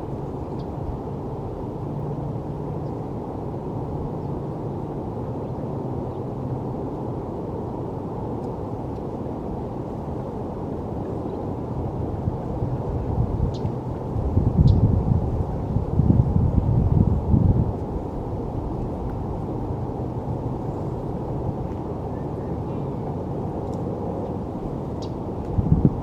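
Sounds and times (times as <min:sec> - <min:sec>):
distant city traffic rumble: 0:00.0 - 0:26.0
low even hum: 0:00.0 - 0:26.0.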